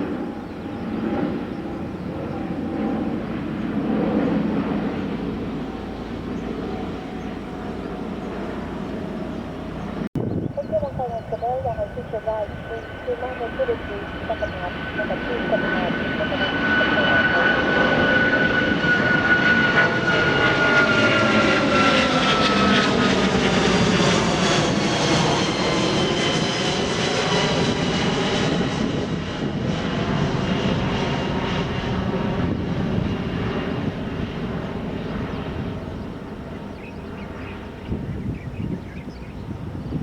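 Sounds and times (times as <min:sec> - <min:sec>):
jet engine whine passing: 0:00.0 - 0:40.0.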